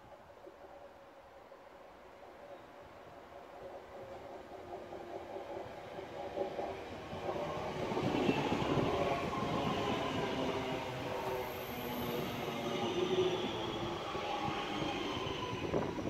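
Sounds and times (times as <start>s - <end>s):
electric train passing: 0.6s - 16.0s.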